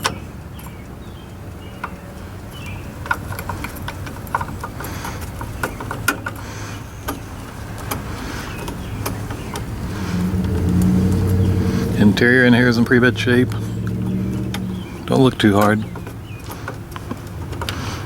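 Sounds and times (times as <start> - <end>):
light clicks and knocks: 0.0 - 12.0, 12.7 - 18.0
steady low hum: 0.3 - 17.6.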